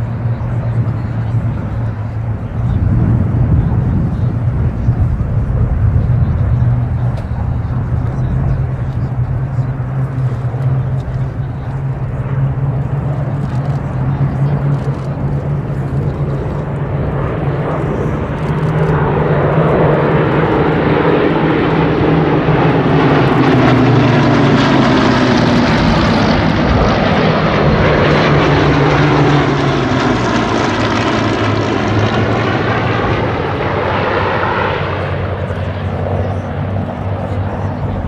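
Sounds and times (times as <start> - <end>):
propeller plane engines droning: 0.0 - 38.0.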